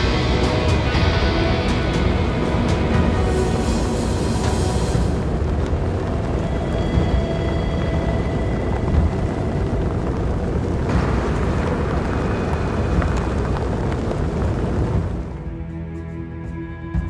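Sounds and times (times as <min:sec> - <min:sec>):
strong wind buffeting microphone: 0:00.0 - 0:15.7.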